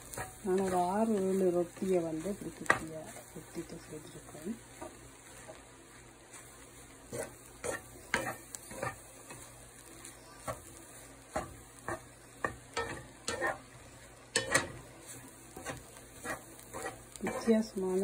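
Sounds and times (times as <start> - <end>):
faint sizzle of frying: 0.0 - 18.0
spatula scraping a frying pan: 0.0 - 18.0.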